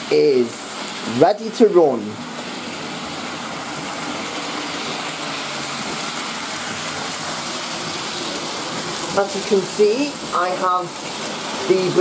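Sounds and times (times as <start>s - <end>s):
model train wheels rumbling: 0.0s - 12.0s.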